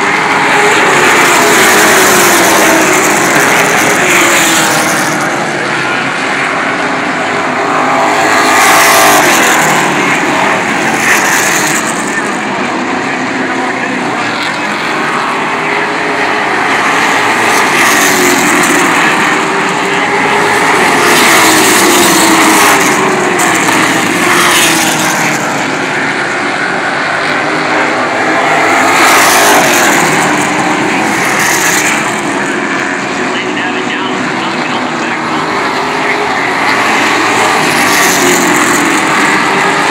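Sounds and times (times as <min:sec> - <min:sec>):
race cars passing by: 0:00.0 - 0:39.9.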